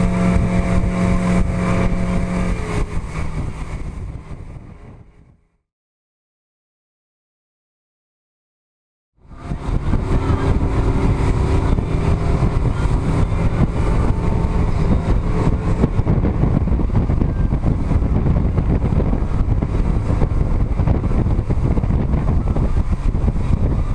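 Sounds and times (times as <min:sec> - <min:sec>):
motorboat engine running: 0:00.0 - 0:05.4, 0:09.2 - 0:23.9
wind buffeting microphone: 0:00.0 - 0:05.5, 0:09.2 - 0:23.9.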